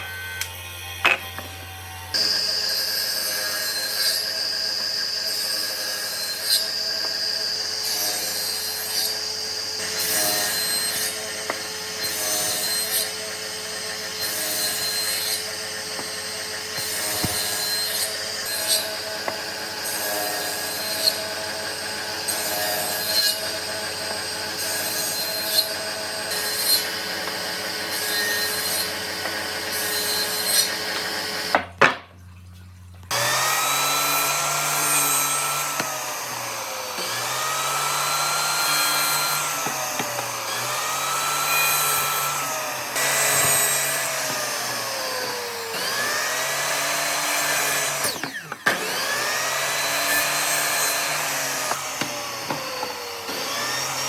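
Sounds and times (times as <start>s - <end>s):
power tool cutting wood: 0.0s - 32.0s, 33.1s - 54.0s.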